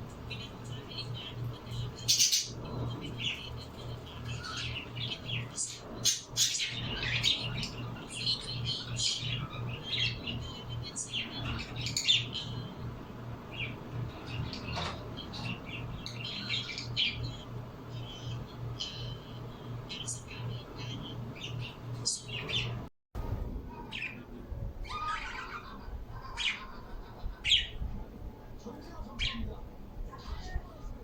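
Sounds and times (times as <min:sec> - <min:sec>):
birds chirping and squawking: 0:00.0 - 0:22.9, 0:23.7 - 0:28.1, 0:29.1 - 0:29.6
low pulsing hum: 0:00.0 - 0:31.0.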